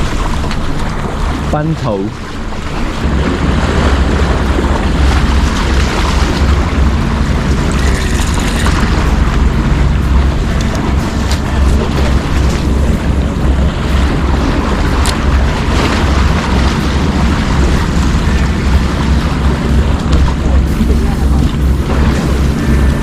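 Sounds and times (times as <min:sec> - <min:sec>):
sea washing: 0:00.0 - 0:23.0
wind buffeting microphone: 0:00.0 - 0:23.0.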